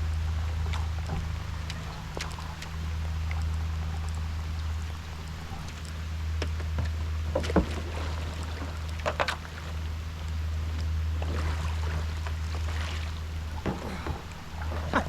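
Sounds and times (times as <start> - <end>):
steady low rumble: 0.0 - 15.0
water splashing around kayak: 0.0 - 15.0.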